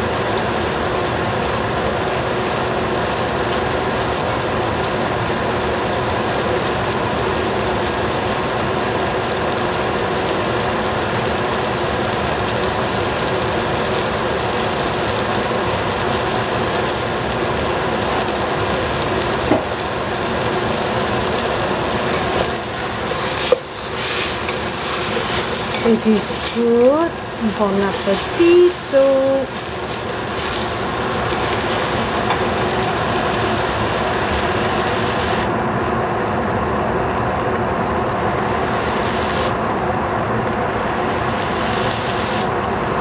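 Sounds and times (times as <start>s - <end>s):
gas stove hiss and hum: 0.0s - 43.0s.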